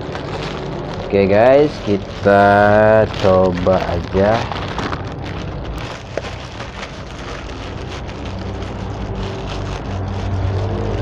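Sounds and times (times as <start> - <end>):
plastic mailer tearing and crinkling: 0.0 - 11.0
road traffic drone: 0.0 - 11.0
vehicle engine: 0.0 - 11.0.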